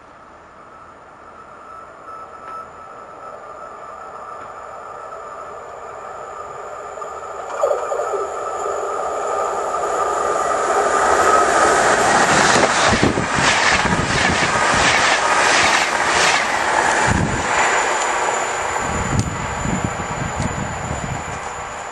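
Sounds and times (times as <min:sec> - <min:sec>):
steel wheels rushing on rail: 0:01.3 - 0:21.9.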